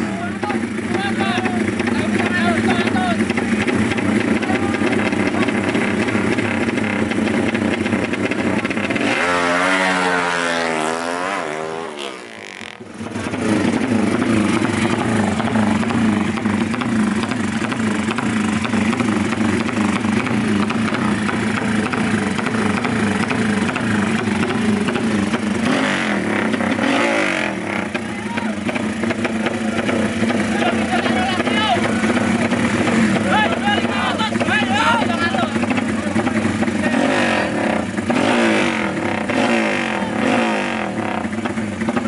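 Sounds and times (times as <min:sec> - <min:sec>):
racing motorcycle engines revving: 0:00.0 - 0:42.0.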